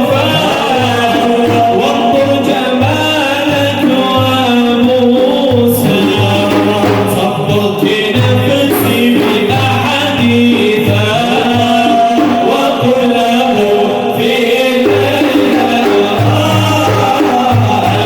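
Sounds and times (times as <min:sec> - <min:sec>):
frame drums beating: 0:00.0 - 0:18.0
group singing devotional song: 0:00.0 - 0:18.0.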